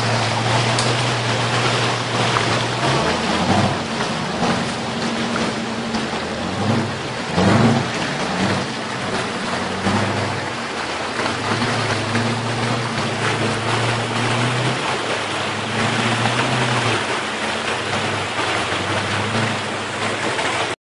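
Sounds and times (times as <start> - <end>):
truck engine humming: 0.0 - 20.8.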